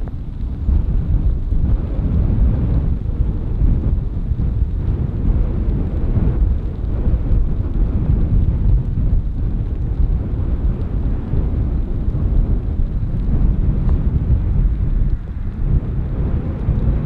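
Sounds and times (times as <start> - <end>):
airliner engines rumbling: 0.0 - 17.0
wind buffeting microphone: 0.0 - 17.0.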